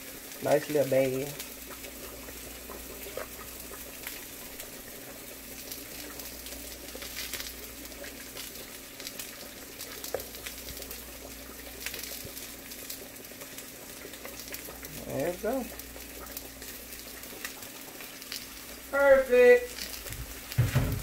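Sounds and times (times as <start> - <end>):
fish frying in hot grease: 0.0 - 21.0
grease popping: 0.0 - 21.0.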